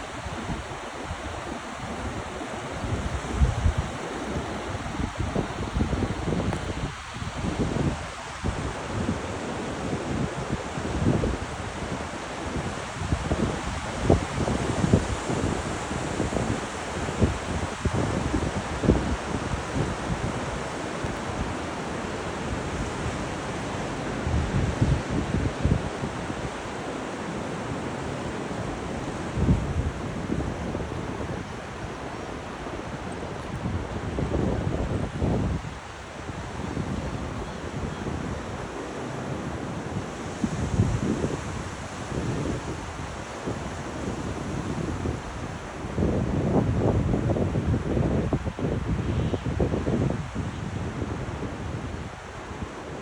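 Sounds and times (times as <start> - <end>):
surf washing on beach: 0.0 - 53.0
wind gusting on microphone: 0.0 - 53.0.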